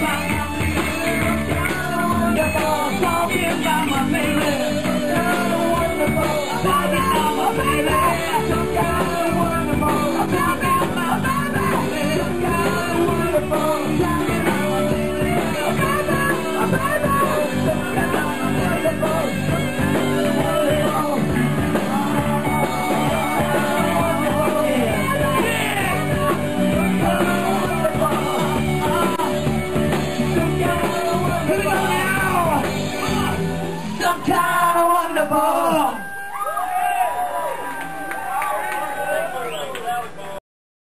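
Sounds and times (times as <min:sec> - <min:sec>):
electric guitar: 0:00.0 - 0:34.4
live rock band playing: 0:00.0 - 0:35.7.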